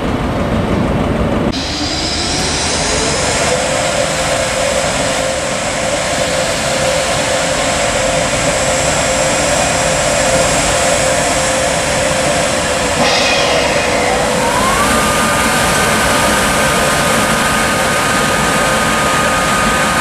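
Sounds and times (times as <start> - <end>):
electric locomotive whining: 0.0 - 20.0.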